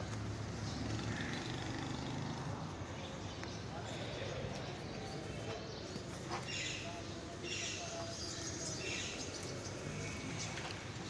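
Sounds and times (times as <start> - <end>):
birds chirping: 0.0 - 11.0
faint street ambience: 0.0 - 11.0.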